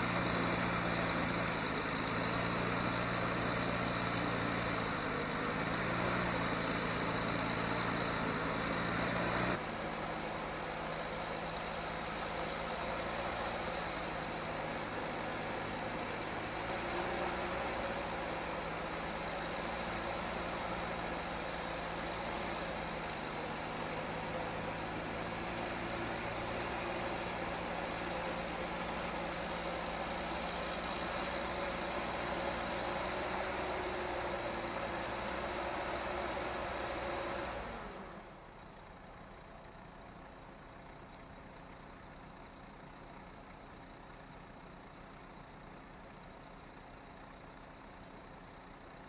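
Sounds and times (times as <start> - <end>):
heavy vehicle engine running: 0.0 - 49.0.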